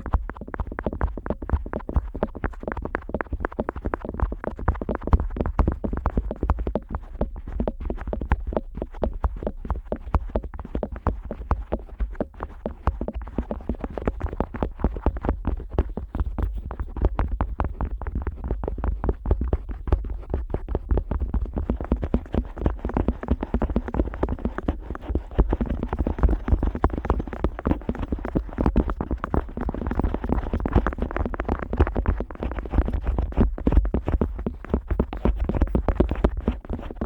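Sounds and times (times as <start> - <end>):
otoscope rubbing and tapping ear: 0.0 - 37.0.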